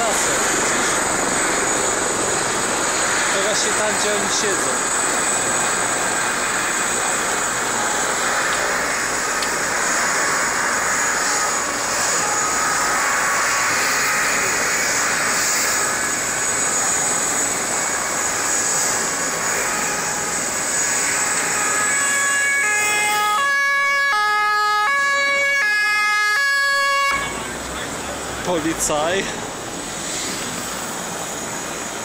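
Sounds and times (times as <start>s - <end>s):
helicopter turbine whine: 0.0s - 32.0s.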